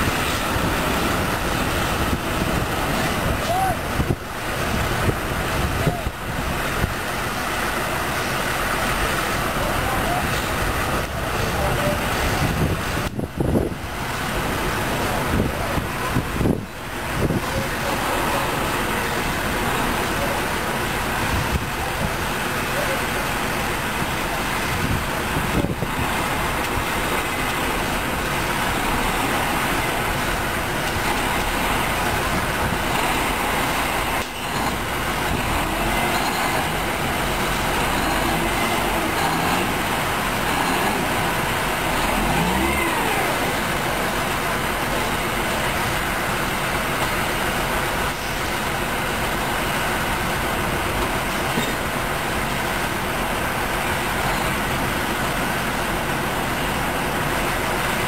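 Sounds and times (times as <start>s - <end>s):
diesel trucks running: 0.0s - 58.0s.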